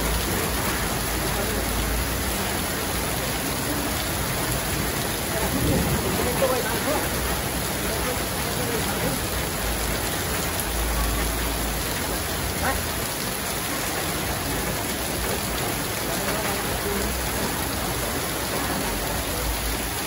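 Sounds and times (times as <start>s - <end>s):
heavy rain pouring: 0.0s - 20.0s
water spilling off a roof: 0.0s - 20.0s.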